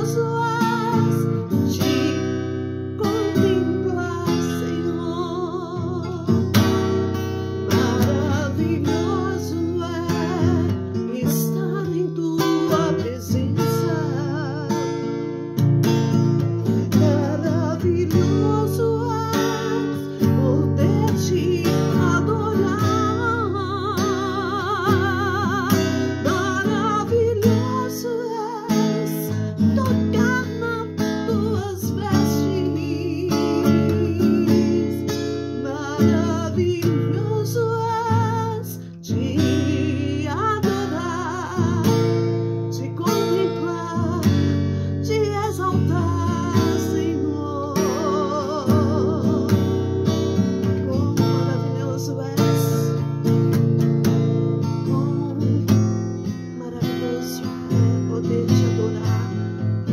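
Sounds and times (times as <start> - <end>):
acoustic guitar strumming chords: 0.0 - 59.9
woman singing with vibrato: 0.0 - 59.9.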